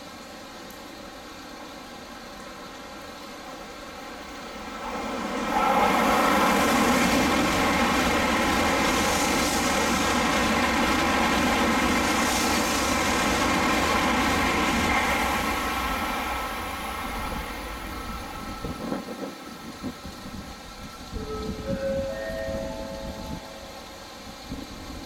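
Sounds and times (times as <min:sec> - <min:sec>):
high-speed train passing: 0:00.0 - 0:25.0.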